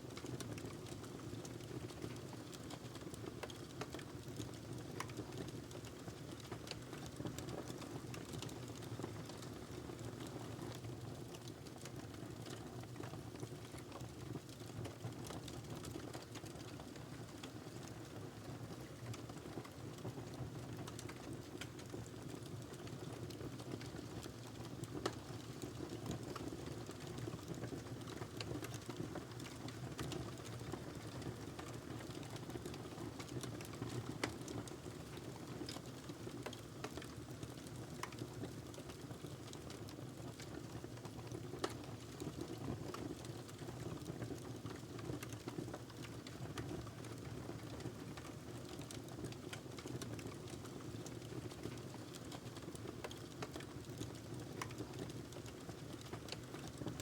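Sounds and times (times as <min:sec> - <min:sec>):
fire crackling and popping: 0:00.1 - 0:57.0.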